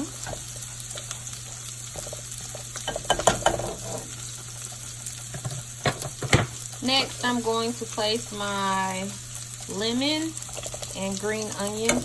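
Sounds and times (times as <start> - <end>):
onions sizzling in butter: 0.0 - 12.0.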